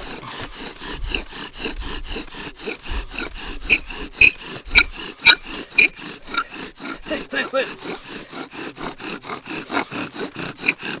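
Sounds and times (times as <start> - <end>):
sharp squeaks of wood: 0.0 - 11.0
wooden spindle rasping: 0.0 - 11.0.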